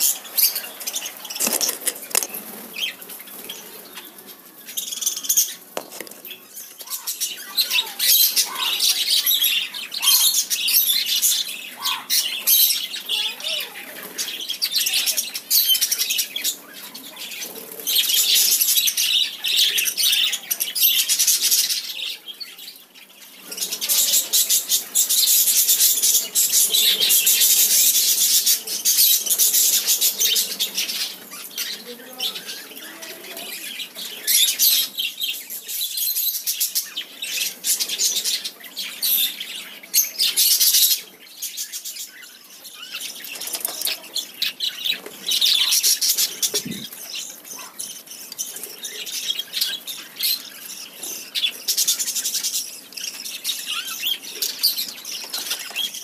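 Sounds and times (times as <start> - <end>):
budgerigars and cockatiels chirping: 0.0 - 56.0.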